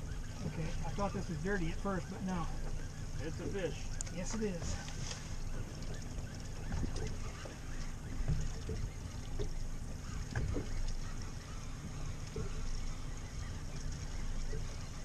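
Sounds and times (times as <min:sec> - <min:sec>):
low engine rumble: 0:00.0 - 0:15.0
water sloshing against a hull: 0:00.0 - 0:15.0.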